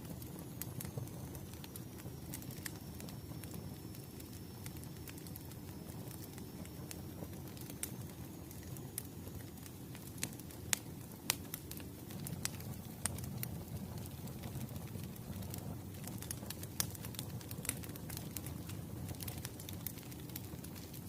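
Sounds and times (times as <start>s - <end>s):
fire rumbling: 0.0s - 21.0s
logs crackling and popping: 0.0s - 21.0s.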